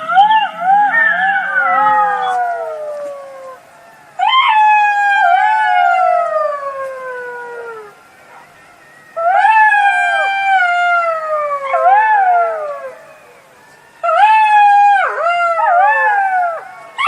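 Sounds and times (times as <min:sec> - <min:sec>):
jackal howling: 0:00.0 - 0:08.5, 0:09.2 - 0:13.4, 0:14.0 - 0:17.0.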